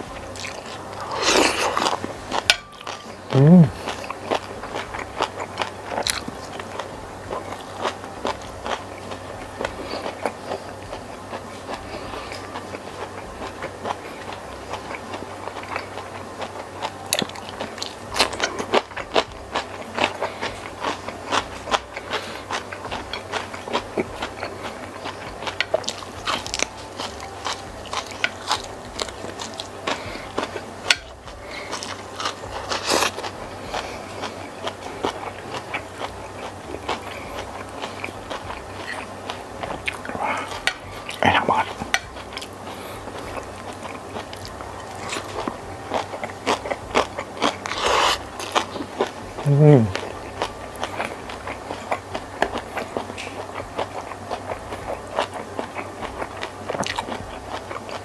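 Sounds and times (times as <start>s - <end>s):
chewing and lip smacking: 0.4s - 58.0s.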